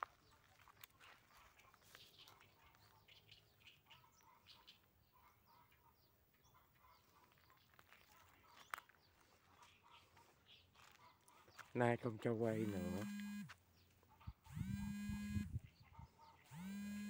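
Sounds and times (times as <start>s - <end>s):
small birds chirping faintly: 0.0s - 17.0s.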